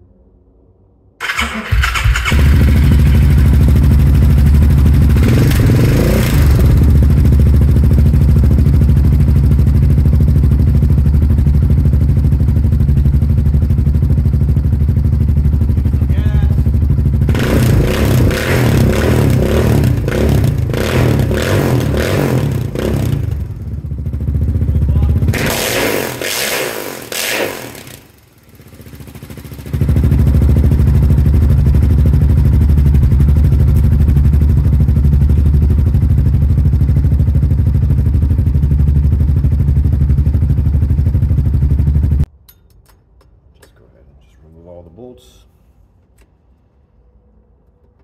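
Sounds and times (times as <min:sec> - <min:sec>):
quad bike engine revving and idling: 0:01.2 - 0:42.3.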